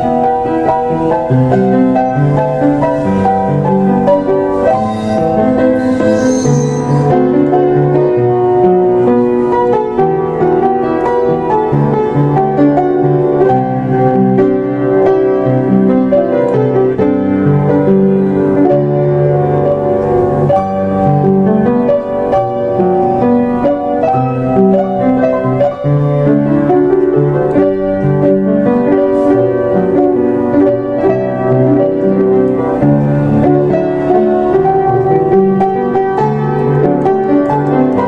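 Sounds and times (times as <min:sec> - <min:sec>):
background piano music: 0:00.0 - 0:38.0.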